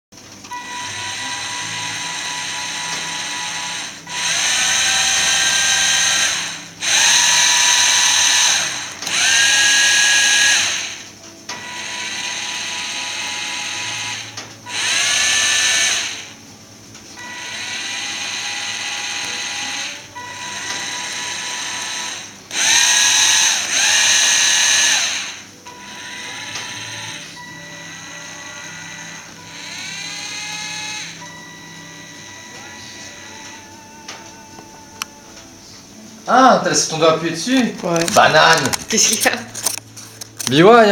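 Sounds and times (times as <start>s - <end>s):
small electric motors whining: 0.4s - 16.5s, 17.1s - 35.6s, 36.3s - 40.9s.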